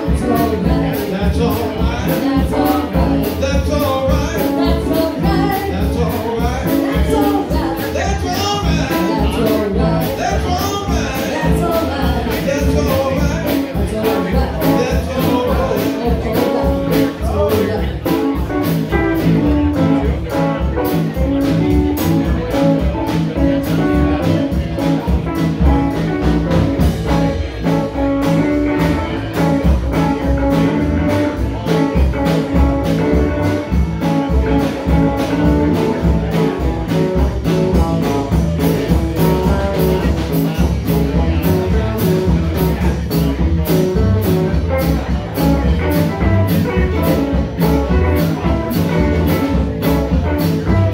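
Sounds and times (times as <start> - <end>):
drum kit beat: 0.0 - 50.9
electric guitars: 0.0 - 50.9.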